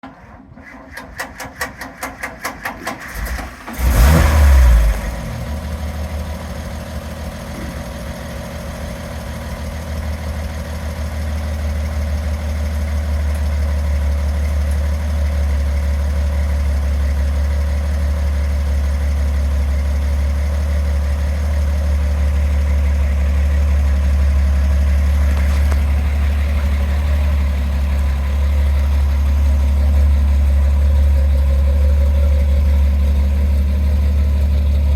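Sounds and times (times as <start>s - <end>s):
truck engine starting and idling: 0.0s - 34.9s.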